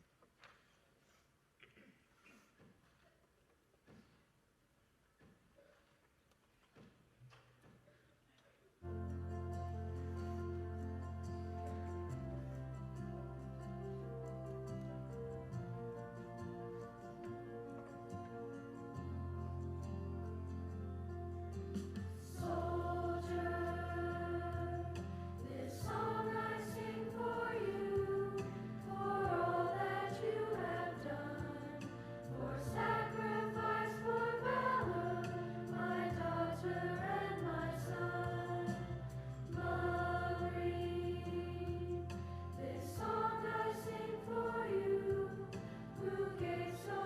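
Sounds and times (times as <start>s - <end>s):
choir singing over low chords: 8.9s - 47.0s.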